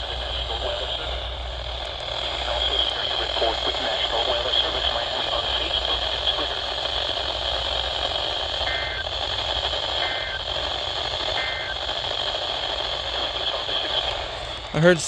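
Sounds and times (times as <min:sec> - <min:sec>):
radio static hissing: 0:00.0 - 0:15.0
two-tone data bursts: 0:02.2 - 0:15.0.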